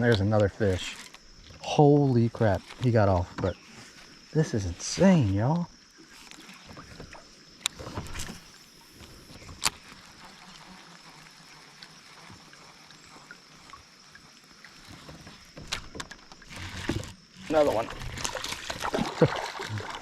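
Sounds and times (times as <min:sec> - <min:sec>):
faint water movement: 0:00.0 - 0:20.0.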